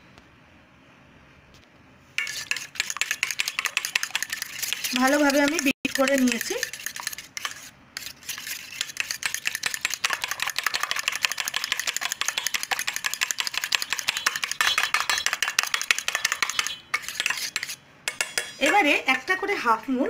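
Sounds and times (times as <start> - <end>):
fork beating eggs in bowl: 2.2 - 19.4.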